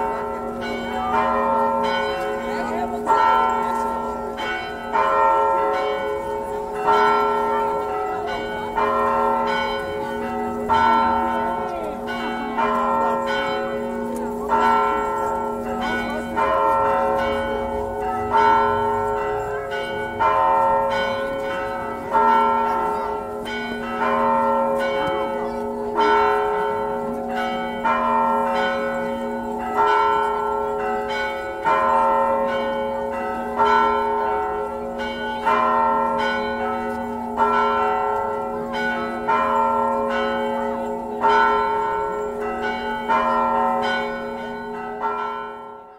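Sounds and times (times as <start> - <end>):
church bells pealing: 0.0 - 45.9.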